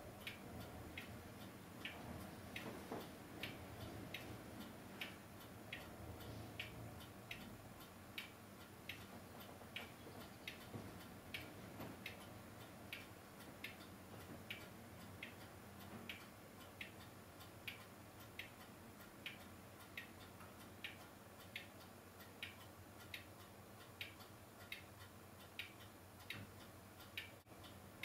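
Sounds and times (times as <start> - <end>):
faint clock ticking: 0.0 - 28.0.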